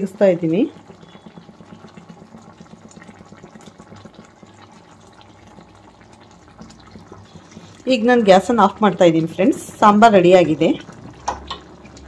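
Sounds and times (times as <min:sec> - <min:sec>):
curry bubbles popping: 0:00.0 - 0:12.0.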